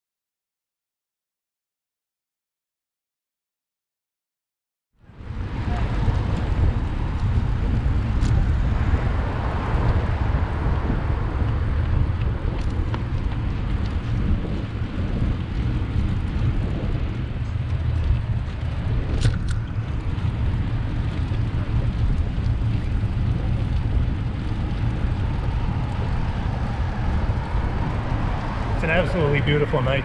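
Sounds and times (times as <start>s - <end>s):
city street noise: 5.0s - 30.0s
wind buffeting microphone: 5.0s - 30.0s.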